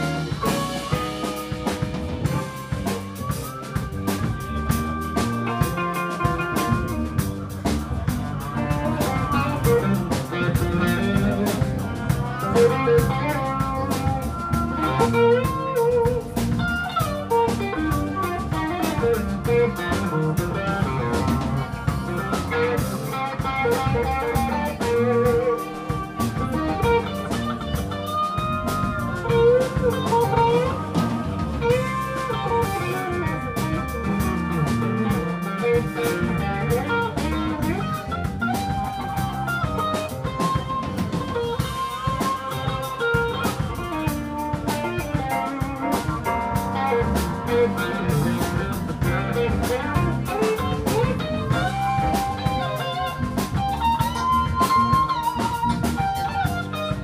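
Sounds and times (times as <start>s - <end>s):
bass guitar: 0.0s - 57.0s
drum kit: 0.0s - 57.0s
electric guitar: 0.0s - 57.0s
keyboard: 0.0s - 57.0s.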